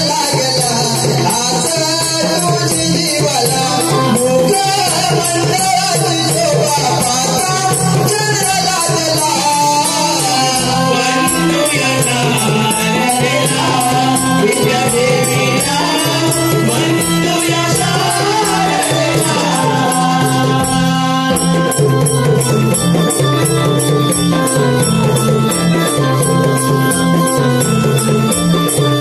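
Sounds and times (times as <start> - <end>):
held chords: 0.0 - 29.0
jingling percussion beat: 0.0 - 29.0
man singing devotional song: 0.0 - 29.0.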